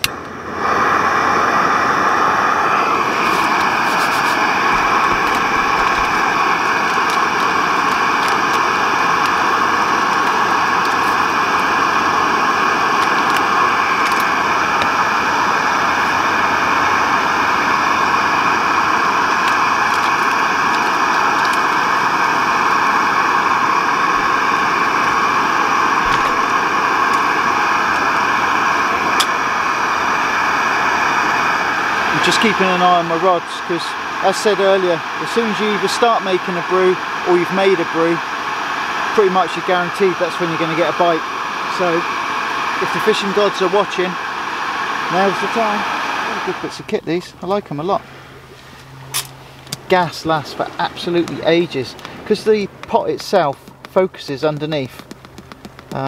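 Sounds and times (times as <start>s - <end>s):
gas stove roaring: 0.0s - 56.0s.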